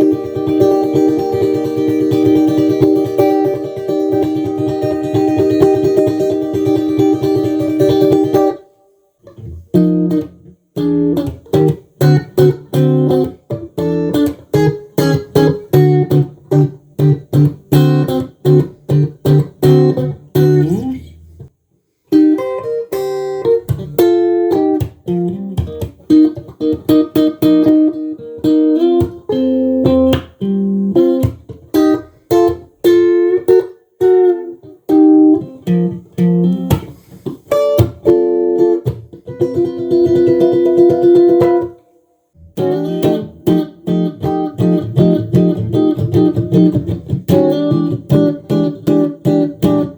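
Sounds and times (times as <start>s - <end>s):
electric guitar playing: 0.0s - 21.5s, 22.1s - 49.9s.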